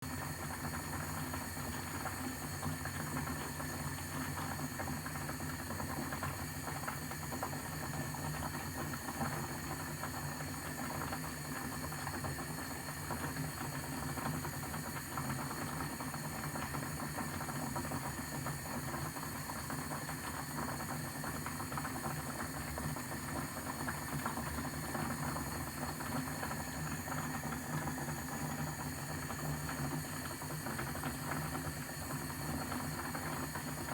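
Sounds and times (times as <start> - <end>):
kettle boiling with hissing steam: 0.0 - 33.9.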